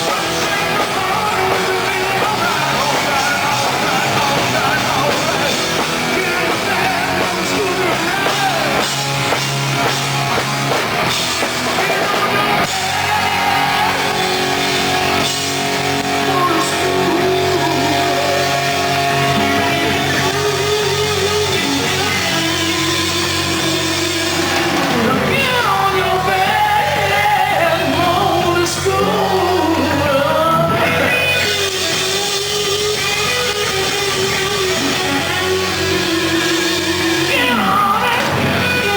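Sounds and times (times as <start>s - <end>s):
person singing: 0.0s - 9.5s, 11.5s - 38.9s
hard rock band playing: 0.0s - 38.9s.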